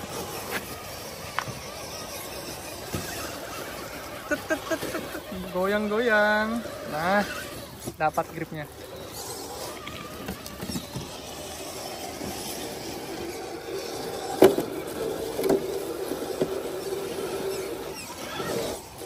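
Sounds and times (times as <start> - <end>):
toy motor and gears whining: 0.0 - 19.0.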